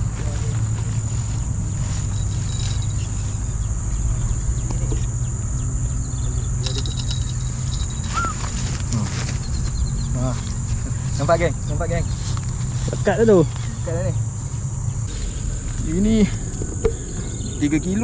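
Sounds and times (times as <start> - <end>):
high insect drone: 0.0 - 18.0
low rumble: 0.0 - 18.0.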